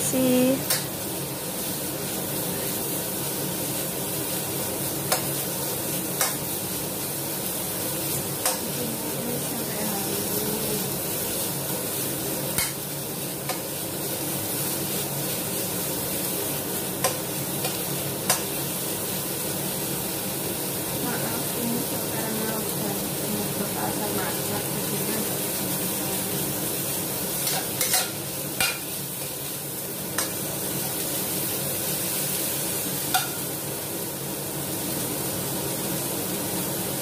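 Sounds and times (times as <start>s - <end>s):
onions sizzling in a wok: 0.0s - 37.0s.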